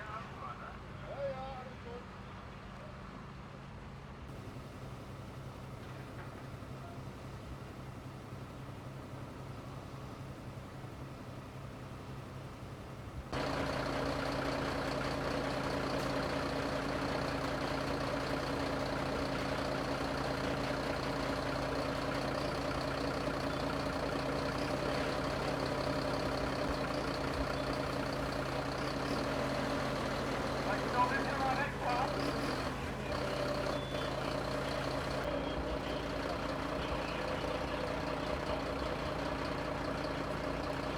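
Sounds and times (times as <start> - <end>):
heavy vehicle engine running: 4.3 - 40.9.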